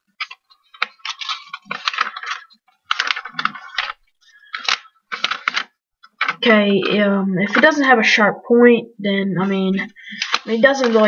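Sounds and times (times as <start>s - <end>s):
paper rustling and crinkling: 0.0s - 7.8s, 9.7s - 11.0s.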